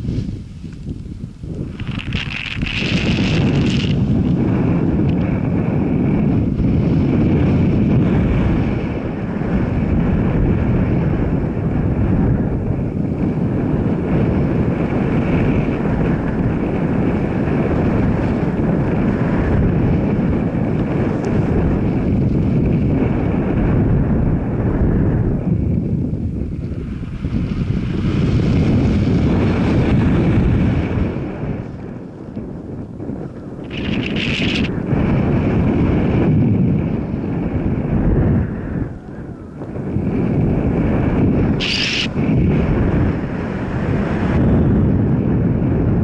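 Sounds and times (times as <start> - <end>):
moving vehicle running noise: 0.0 - 46.0
wind buffeting microphone: 0.0 - 46.0.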